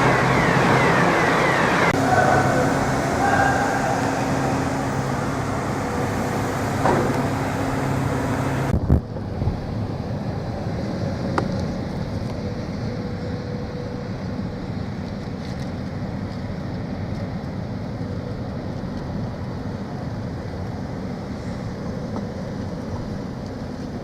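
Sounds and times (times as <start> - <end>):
low engine rumble: 0.0 - 24.0
wind noise: 0.0 - 24.0.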